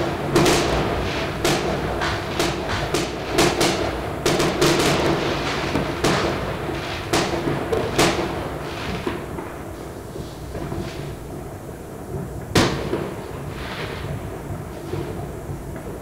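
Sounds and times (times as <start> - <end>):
fireworks and firecrackers banging: 0.0 - 16.0.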